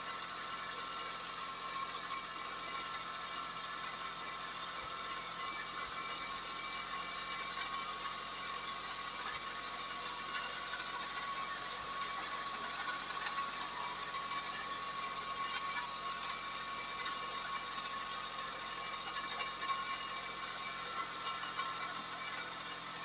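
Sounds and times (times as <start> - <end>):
car engine idling with misfire: 0.0 - 23.0.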